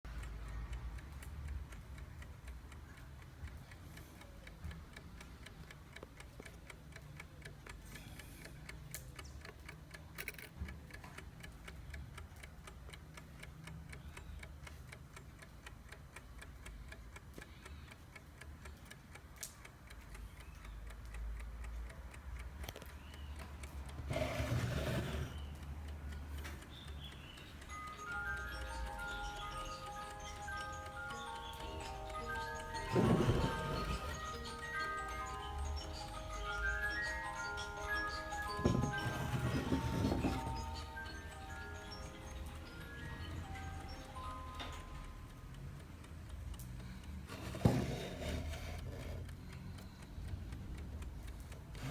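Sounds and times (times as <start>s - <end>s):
clock ticking: 0.1s - 51.9s.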